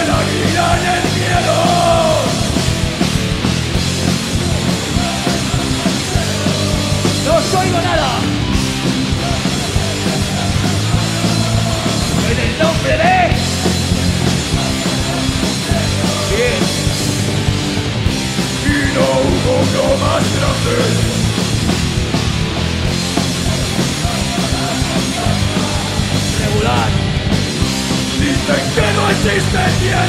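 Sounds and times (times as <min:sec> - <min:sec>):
bass guitar: 0:00.0 - 0:30.0
distorted electric guitar: 0:00.0 - 0:30.0
drum kit with cymbals: 0:00.0 - 0:30.0.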